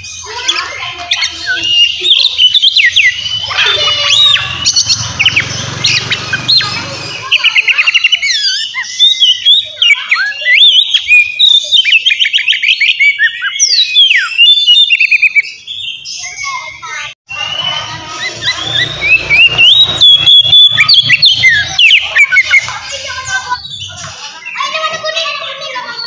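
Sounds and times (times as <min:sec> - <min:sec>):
bird singing whistles and rattles: 0:00.0 - 0:16.7, 0:17.3 - 0:26.0.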